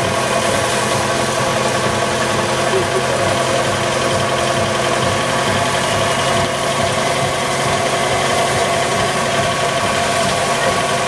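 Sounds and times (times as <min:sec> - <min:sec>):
threshing machine running: 0:00.0 - 0:11.0
tractor engine running under load: 0:00.0 - 0:11.0.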